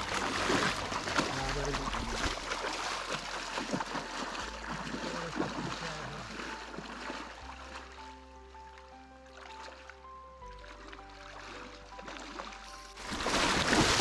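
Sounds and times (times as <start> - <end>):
footsteps splashing through water: 0.0 - 8.3, 9.3 - 14.0
background music: 0.0 - 14.0.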